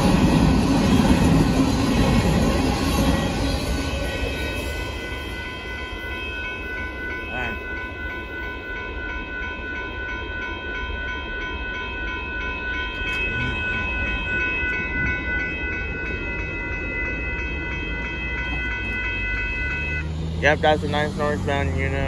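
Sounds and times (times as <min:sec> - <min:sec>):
freight train rumbling past: 0:00.0 - 0:22.0
railroad crossing bells ringing: 0:00.0 - 0:22.0.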